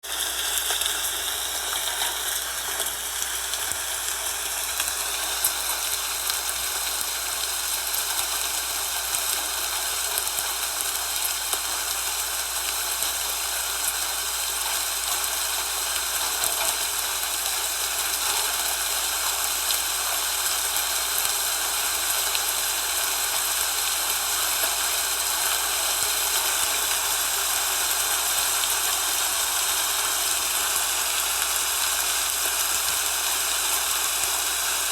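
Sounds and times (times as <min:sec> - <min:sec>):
hiss of falling snow: 0:00.0 - 0:34.9.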